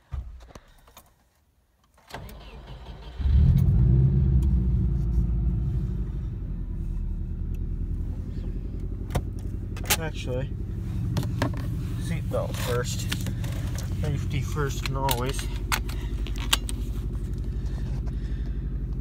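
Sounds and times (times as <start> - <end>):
car engine starting and idling: 2.0 - 19.0.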